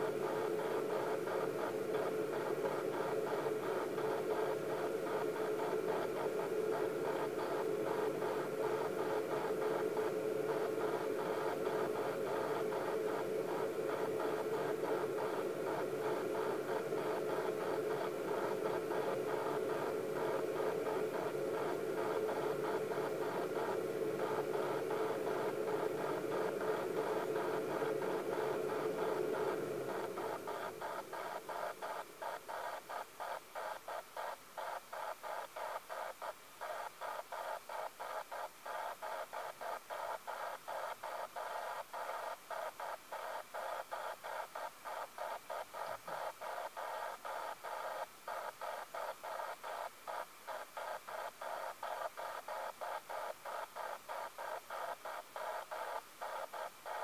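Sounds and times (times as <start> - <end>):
speaker hiss and static: 0.0 - 57.0.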